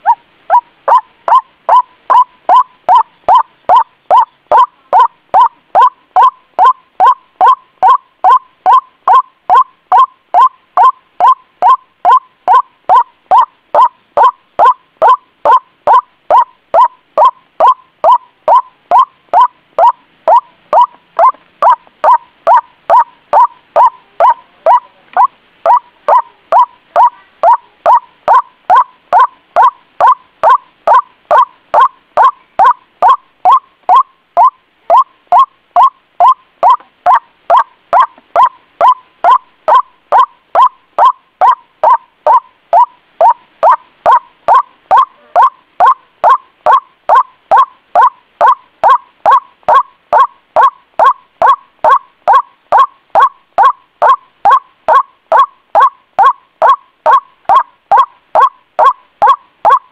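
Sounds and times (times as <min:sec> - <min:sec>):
waterhen calls: 0:00.0 - 0:59.9.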